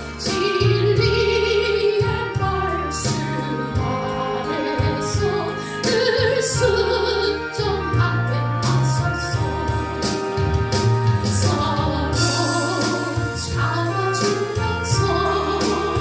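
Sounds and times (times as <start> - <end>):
instrumental backing track: 0.0 - 16.0
person singing with vibrato: 0.0 - 16.0.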